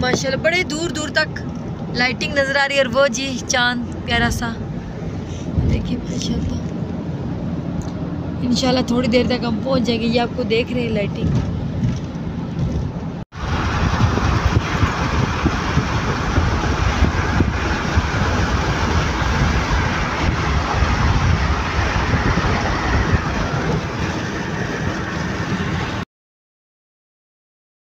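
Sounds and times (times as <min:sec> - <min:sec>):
road noise inside moving car: 0:00.0 - 0:26.0.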